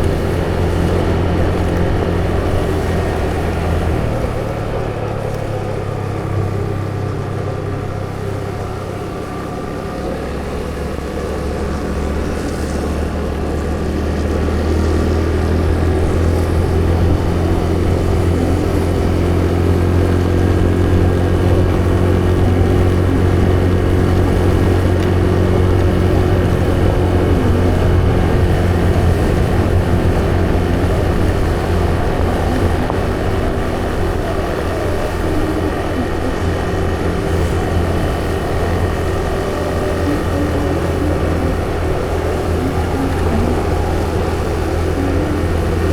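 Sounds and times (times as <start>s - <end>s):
vehicle engine droning: 0.0s - 45.9s.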